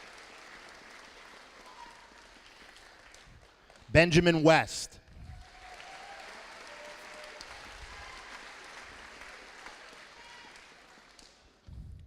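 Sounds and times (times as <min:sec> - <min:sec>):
audience clapping: 0:00.0 - 0:11.6.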